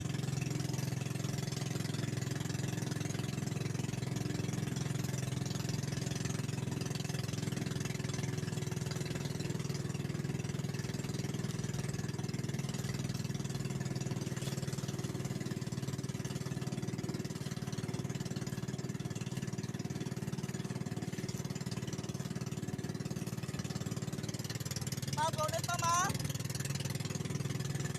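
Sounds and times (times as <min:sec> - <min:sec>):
boat engine running steadily: 0:00.0 - 0:27.9.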